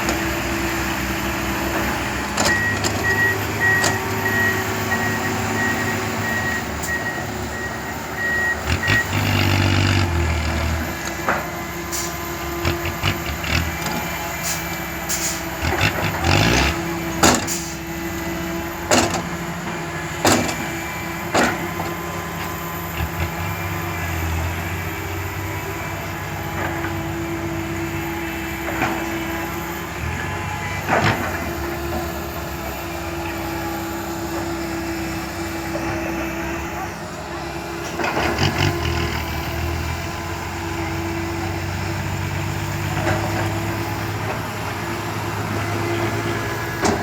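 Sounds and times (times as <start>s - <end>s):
diesel machinery running: 0.0s - 47.0s.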